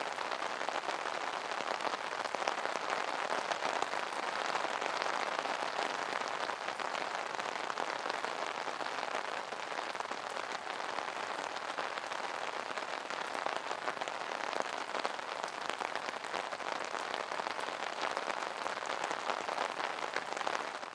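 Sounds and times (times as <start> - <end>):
rain pattering on an umbrella: 0.0 - 20.9.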